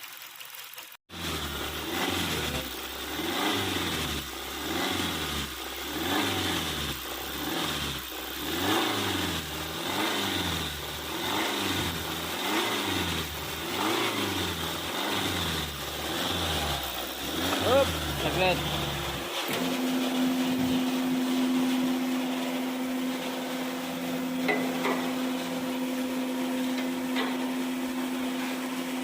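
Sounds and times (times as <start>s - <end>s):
car engine revving: 1.1s - 29.0s.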